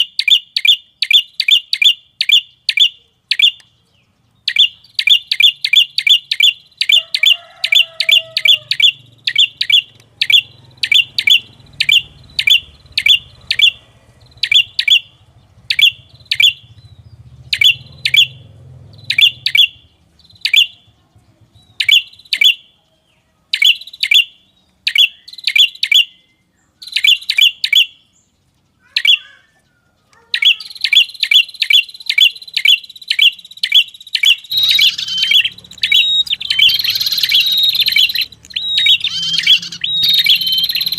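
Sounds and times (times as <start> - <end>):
songbird sharp high chirps: 0.0 - 40.9.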